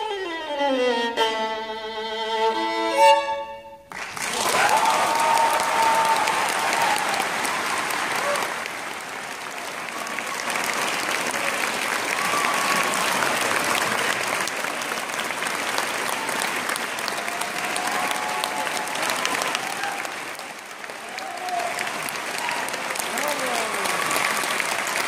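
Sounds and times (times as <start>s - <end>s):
audience applauding: 3.9s - 25.0s.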